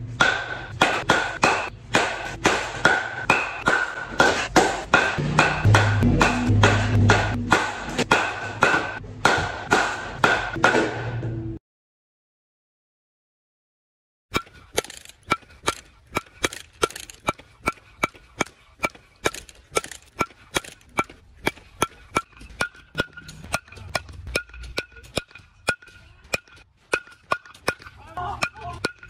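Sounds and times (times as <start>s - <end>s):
baseball bat hitting balls: 0.0s - 11.3s, 14.3s - 29.0s.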